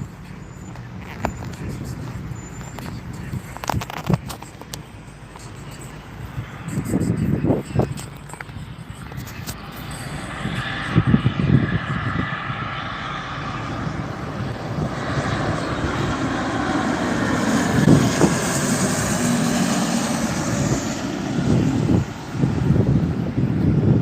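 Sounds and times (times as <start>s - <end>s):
jet aircraft passing overhead: 0.0s - 24.0s.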